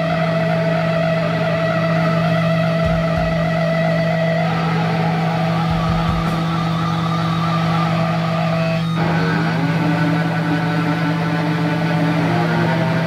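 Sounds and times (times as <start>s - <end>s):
amplifier hum: 0.0s - 13.0s
electric guitar feedback: 0.0s - 13.0s.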